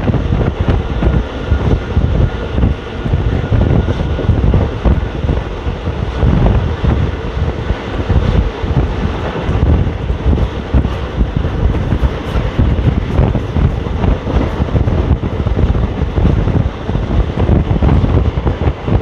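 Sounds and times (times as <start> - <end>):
train wheels clattering on rails: 0.0 - 19.0
wind buffeting microphone: 0.0 - 19.0.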